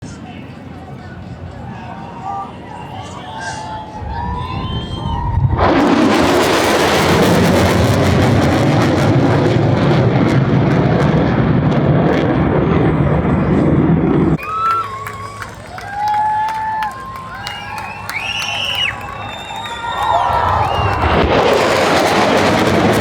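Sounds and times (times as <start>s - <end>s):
aircraft engine noise: 0.1s - 23.0s.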